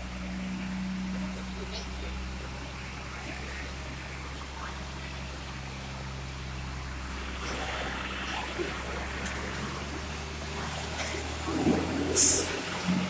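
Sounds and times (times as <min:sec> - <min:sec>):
diesel truck engine low revs: 0:00.0 - 0:13.0
even hiss: 0:00.6 - 0:13.0.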